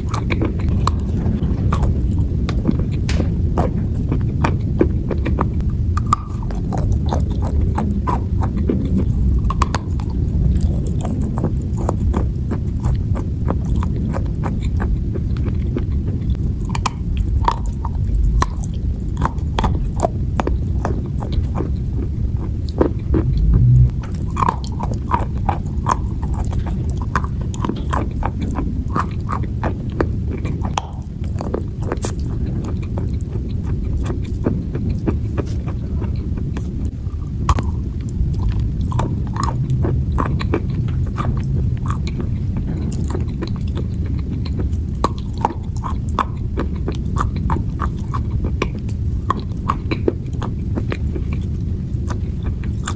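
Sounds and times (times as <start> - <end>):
chewing crunchy clay: 0.0 - 52.9
steady low rumble: 0.0 - 52.9.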